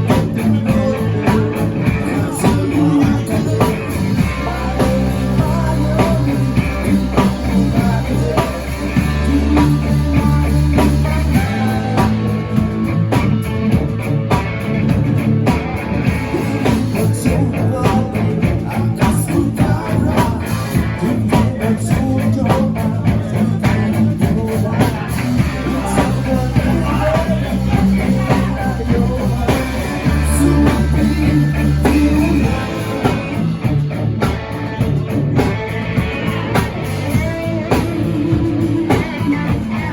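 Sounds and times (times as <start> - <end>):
bass guitar chords: 0.0 - 39.9
drum kit: 0.0 - 39.9
electric guitar: 0.0 - 39.9.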